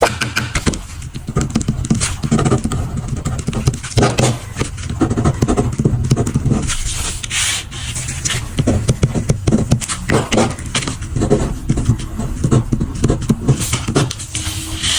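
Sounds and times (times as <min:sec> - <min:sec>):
pen scratching on paper: 0:00.0 - 0:14.9.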